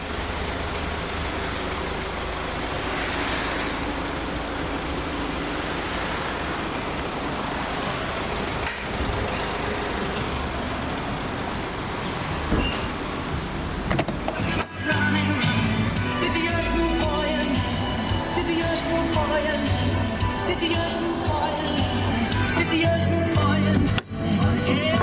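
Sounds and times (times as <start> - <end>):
motor vehicle rumble: 0.0 - 25.0
road traffic noise: 0.0 - 25.0.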